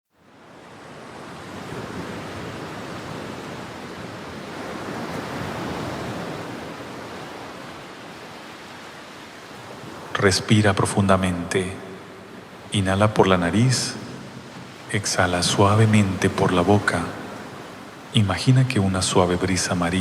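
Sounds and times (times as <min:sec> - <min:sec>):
ocean waves rushing: 0:00.3 - 0:20.0.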